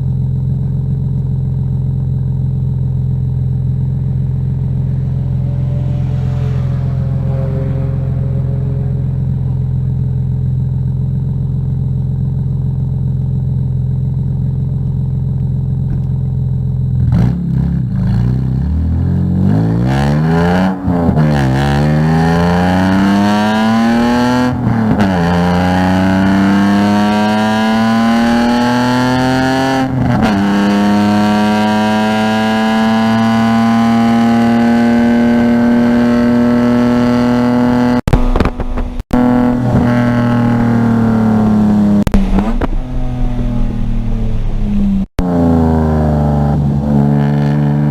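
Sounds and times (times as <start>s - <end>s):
car engine revving through gears: 2.8s - 13.0s, 15.8s - 47.9s.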